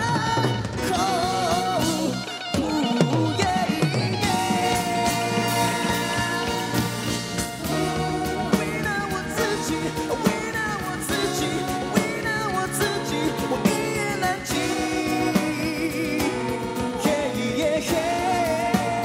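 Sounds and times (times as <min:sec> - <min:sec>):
man singing: 0:00.0 - 0:19.0
rock band playing: 0:00.0 - 0:19.0.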